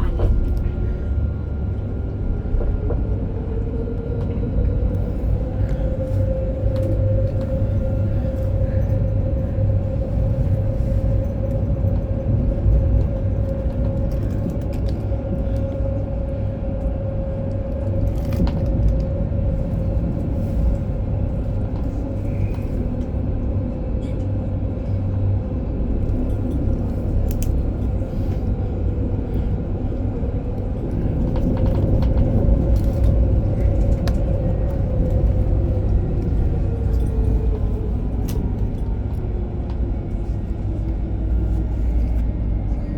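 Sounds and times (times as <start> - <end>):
tram rumbling: 0.0 - 42.9.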